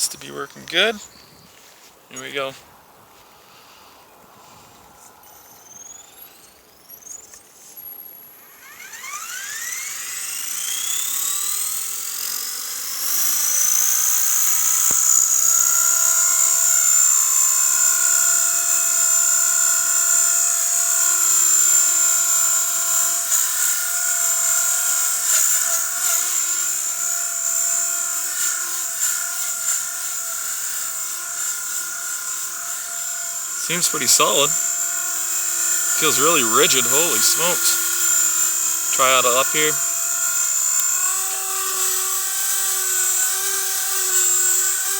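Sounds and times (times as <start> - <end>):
rc helicopter motor whine: 0.0 - 1.6, 3.1 - 44.9.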